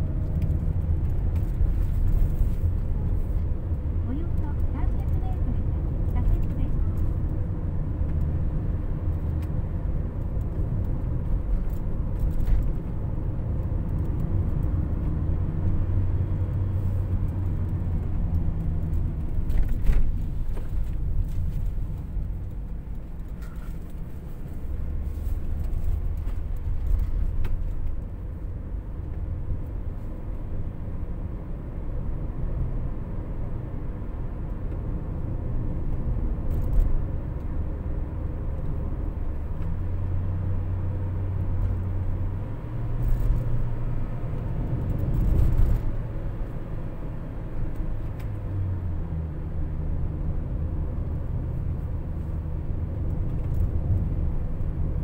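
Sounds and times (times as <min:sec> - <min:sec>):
engine and tyre drone in cabin: 0:00.0 - 0:55.0.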